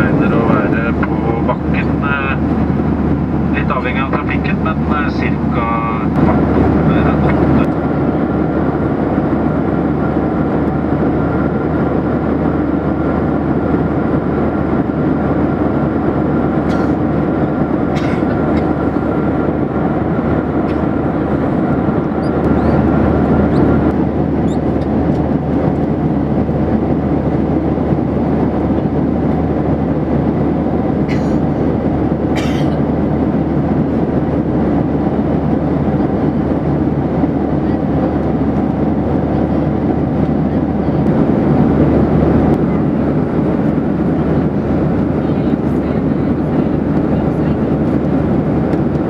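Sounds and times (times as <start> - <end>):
airliner cabin engine rush: 0.0 - 49.0.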